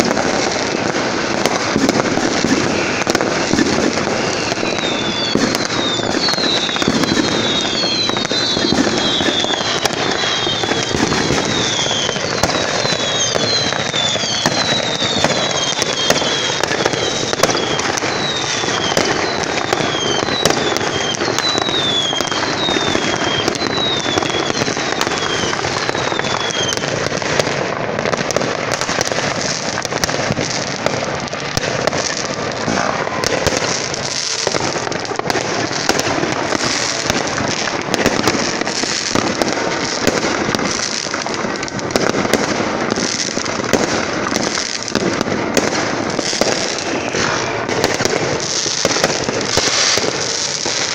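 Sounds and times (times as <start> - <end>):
distant fireworks bangs and crackles: 0.0 - 50.9
falling firework whistles: 0.0 - 50.9.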